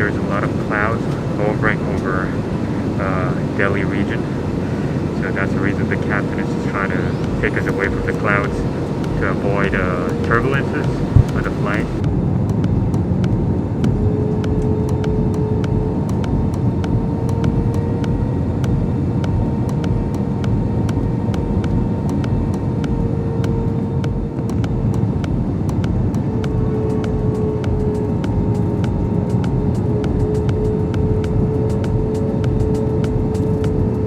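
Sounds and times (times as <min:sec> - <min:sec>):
airplane cabin engine rush: 0:00.0 - 0:34.0
constant whine: 0:00.0 - 0:34.0.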